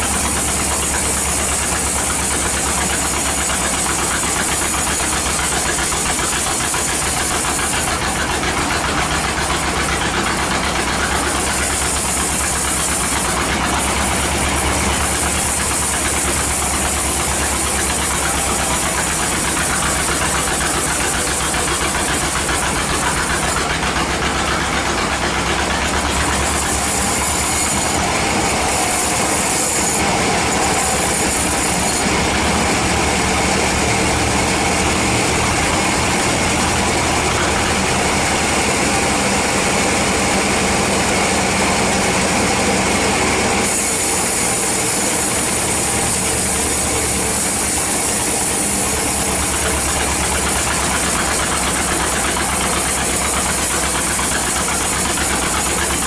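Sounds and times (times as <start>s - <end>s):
saw blade hissing through wood: 0.0s - 56.0s
sawmill engine drone: 0.0s - 56.0s.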